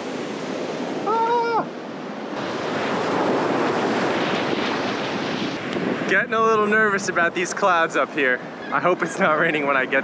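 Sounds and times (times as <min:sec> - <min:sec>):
ocean surf washing onto beach: 0:00.0 - 0:10.0
wind buffeting microphone: 0:00.0 - 0:10.0.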